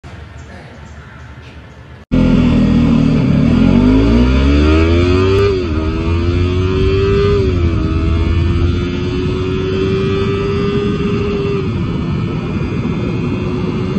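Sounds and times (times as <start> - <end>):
motorcycle engine accelerating: 2.1 - 13.9.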